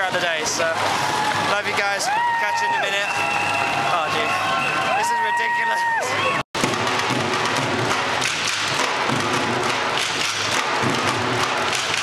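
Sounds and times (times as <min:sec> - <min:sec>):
street drummers playing: 0:00.0 - 0:12.0.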